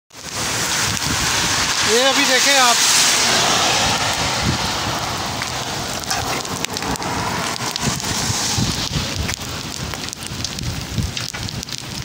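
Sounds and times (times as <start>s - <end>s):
rain on asphalt: 0.1s - 12.0s.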